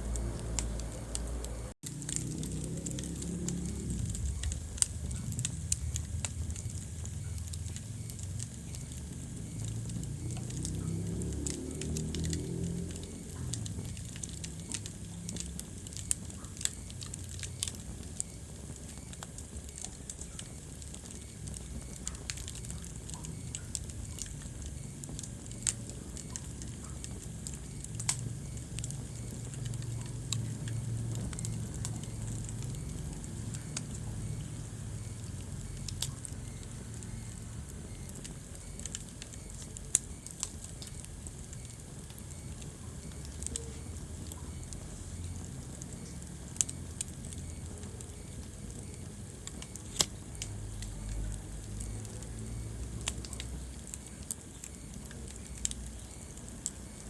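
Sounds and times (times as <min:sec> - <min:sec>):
low rumble of flames: 0:00.0 - 0:57.0
wood fire crackling: 0:00.0 - 0:57.0
sharp pops of fire: 0:00.1 - 0:57.0.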